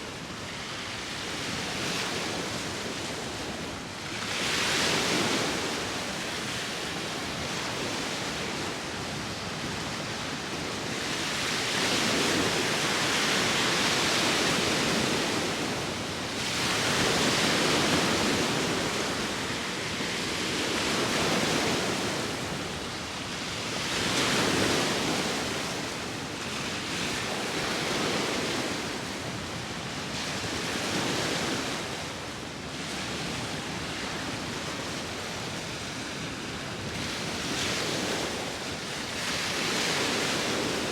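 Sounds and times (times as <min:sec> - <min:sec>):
sea waves washing ashore: 0:00.0 - 0:40.9
wind: 0:00.0 - 0:40.9.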